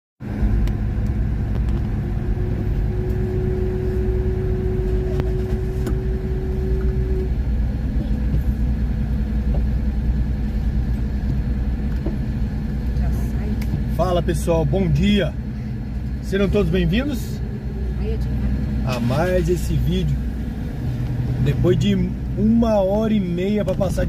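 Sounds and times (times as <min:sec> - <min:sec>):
car idling: 0:00.2 - 0:24.0
steady tone: 0:01.3 - 0:24.0.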